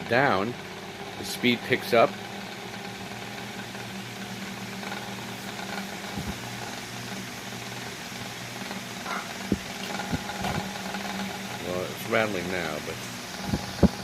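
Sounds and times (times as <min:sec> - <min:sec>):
fan humming and rattling: 0:00.0 - 0:14.0.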